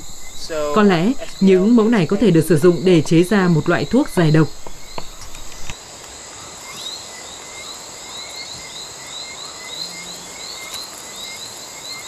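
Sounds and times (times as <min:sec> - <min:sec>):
frogs chirping: 0:00.0 - 0:12.0
insects droning: 0:00.0 - 0:12.0.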